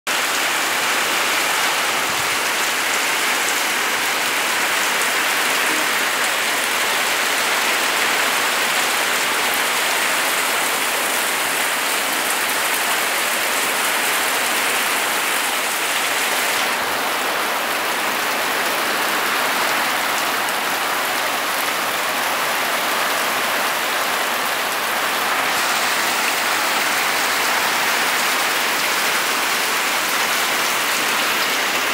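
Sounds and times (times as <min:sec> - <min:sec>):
rain on a metal roof: 0:00.1 - 0:31.9.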